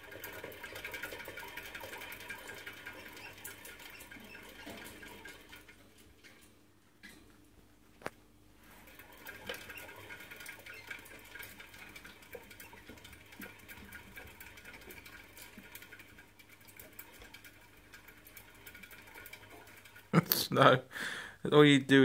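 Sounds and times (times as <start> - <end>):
exercise wheel clicking and rattling: 0.0 - 7.3, 8.7 - 20.3.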